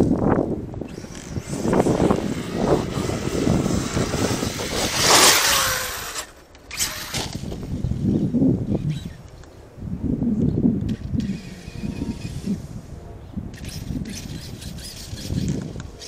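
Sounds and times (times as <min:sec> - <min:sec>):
rc truck driving over rough ground: 0:00.0 - 0:09.5, 0:10.8 - 0:12.6, 0:13.5 - 0:16.0.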